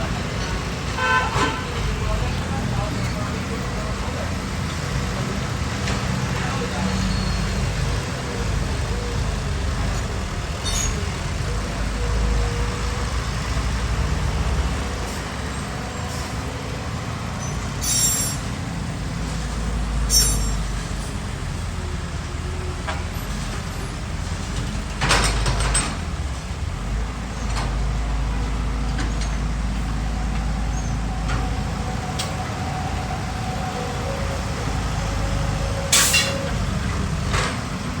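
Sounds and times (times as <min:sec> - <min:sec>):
excavator engine rumbling: 0:00.0 - 0:38.0.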